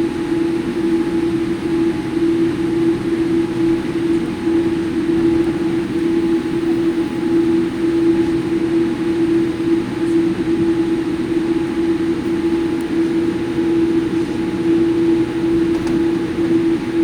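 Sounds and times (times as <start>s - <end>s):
jet engine cabin drone: 0.0s - 17.0s.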